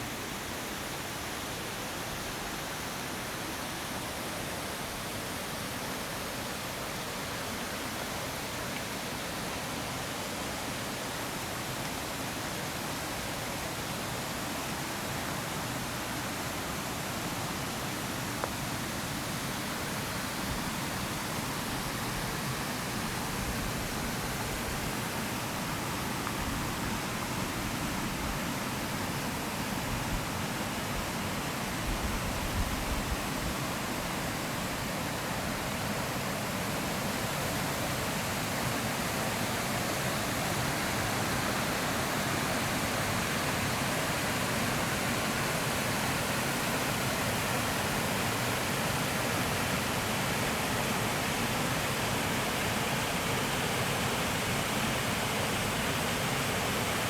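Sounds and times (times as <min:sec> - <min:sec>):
forest stream rushing: 0:00.0 - 0:57.0.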